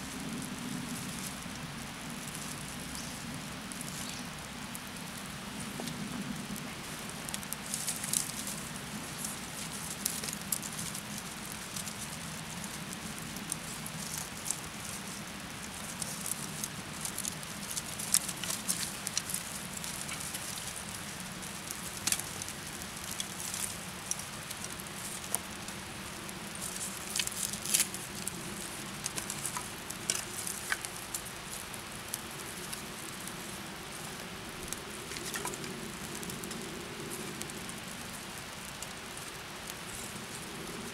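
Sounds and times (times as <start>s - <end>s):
twig fire crackling and popping: 0.0s - 40.9s.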